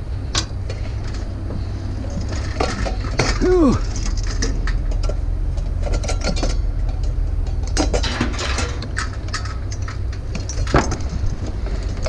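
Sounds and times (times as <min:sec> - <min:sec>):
steady low rumble: 0:00.0 - 0:12.0
scrap metal clinks and knocks: 0:00.3 - 0:12.0.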